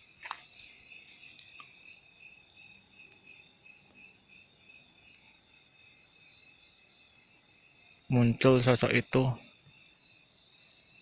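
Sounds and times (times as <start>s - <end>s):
crickets and insects shrilling: 0.0s - 11.0s.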